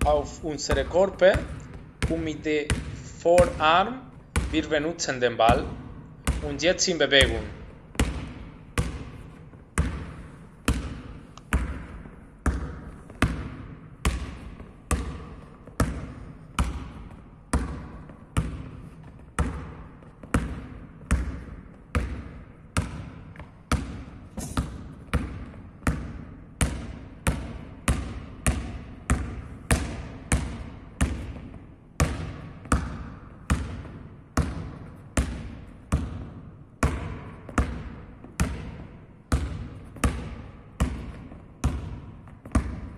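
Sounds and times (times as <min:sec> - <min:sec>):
basketball bouncing in echoing hall: 0:00.0 - 0:42.9.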